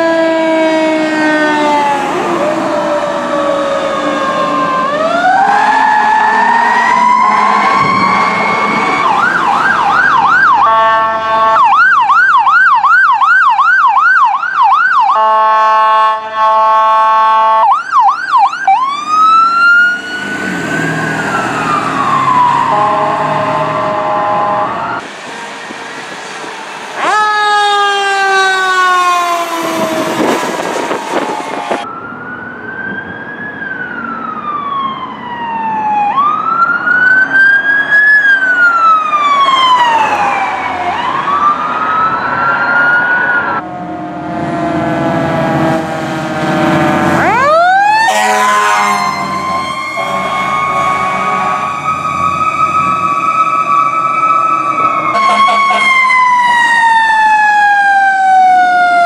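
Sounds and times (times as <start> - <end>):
fire truck sirens wailing: 0.0 - 59.0.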